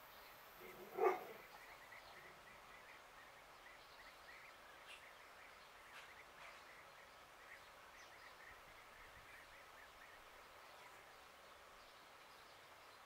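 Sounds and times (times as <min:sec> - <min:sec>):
faint bird chirps: 0:00.0 - 0:13.0
low outdoor hiss: 0:00.0 - 0:13.0.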